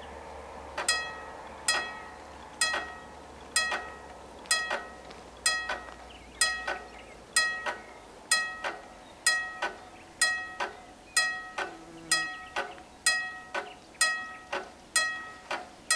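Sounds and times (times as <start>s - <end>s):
level crossing warning bells: 0.8s - 15.6s.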